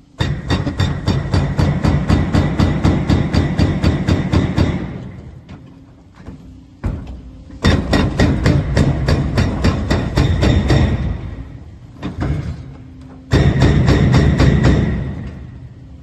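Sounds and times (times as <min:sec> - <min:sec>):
hydraulic breaker hammering: 0:00.1 - 0:16.0.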